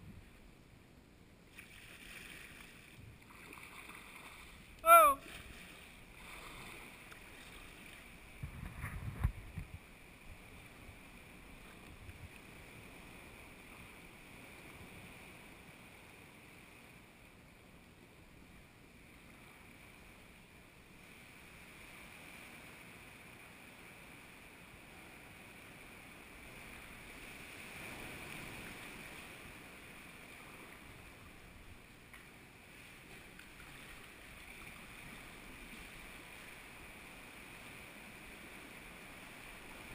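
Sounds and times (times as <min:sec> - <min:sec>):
water swishing and lapping: 0:01.4 - 0:39.9.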